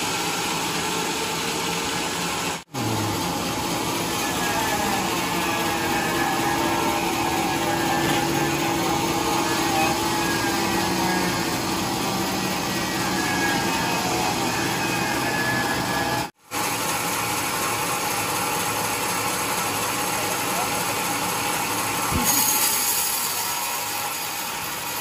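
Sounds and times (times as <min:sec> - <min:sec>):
sawmill machinery humming: 0:00.0 - 0:25.0.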